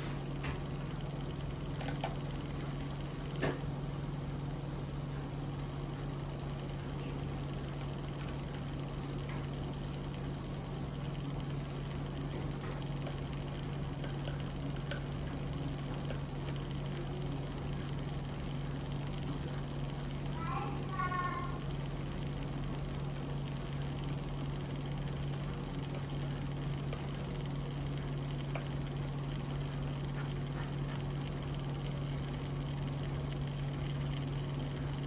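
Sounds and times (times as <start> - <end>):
cotton candy machine motor humming: 0.0 - 35.0.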